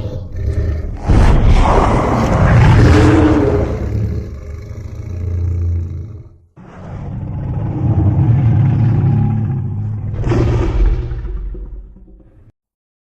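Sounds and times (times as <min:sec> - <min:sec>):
deep monster roar: 0:00.0 - 0:12.5.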